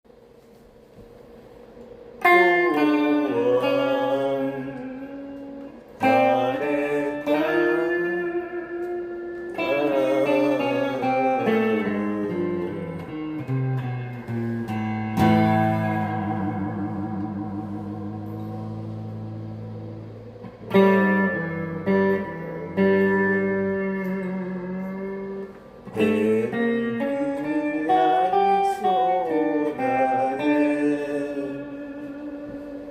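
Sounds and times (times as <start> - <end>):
plucked guitar: 0.4 - 32.9.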